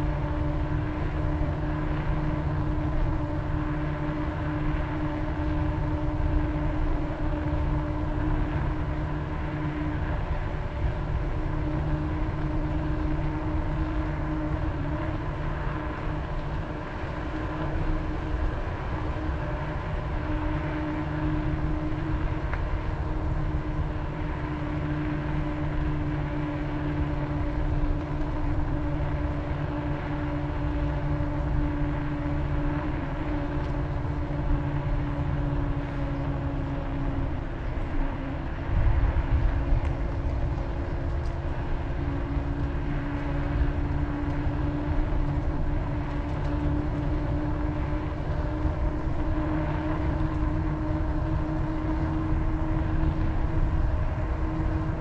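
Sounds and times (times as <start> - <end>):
steady hum of held tones: 0.0 - 55.0
wind buffeting microphone: 0.0 - 55.0.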